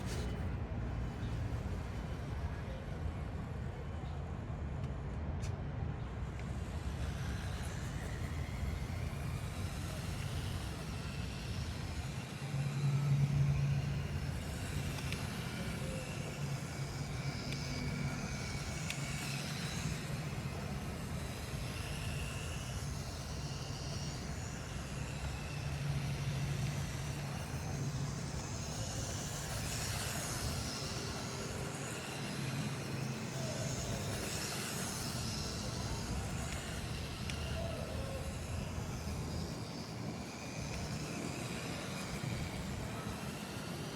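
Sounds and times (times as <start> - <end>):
toy car electric motor whine: 0.0 - 5.1, 6.1 - 43.9.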